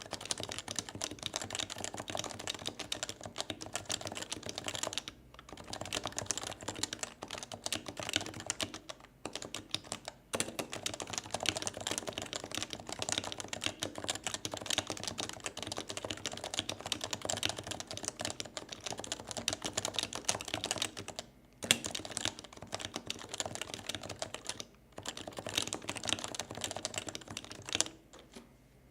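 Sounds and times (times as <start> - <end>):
fast typing on a keyboard: 0.0 - 28.0.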